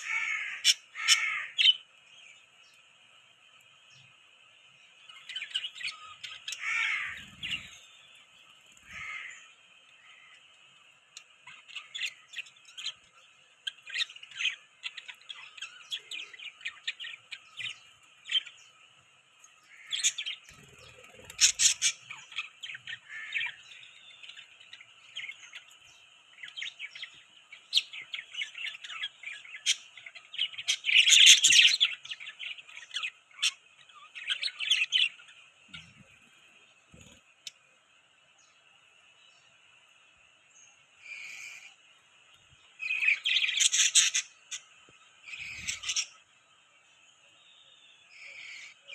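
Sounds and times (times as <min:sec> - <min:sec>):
budgies chirping: 0:00.0 - 0:37.6, 0:41.0 - 0:41.8, 0:42.6 - 0:46.3, 0:48.0 - 0:48.9.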